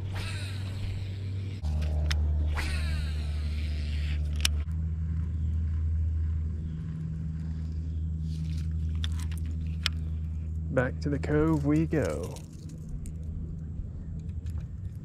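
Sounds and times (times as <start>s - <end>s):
propeller drive humming: 0.0s - 15.0s.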